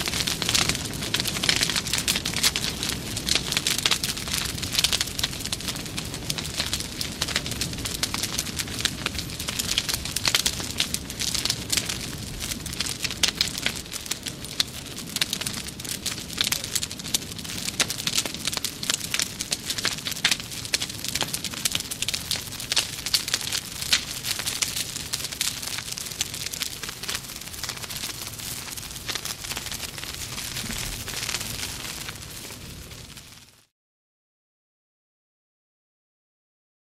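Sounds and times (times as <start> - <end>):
burning wood crackling: 0.0 - 33.7
flames rumbling: 0.0 - 33.7.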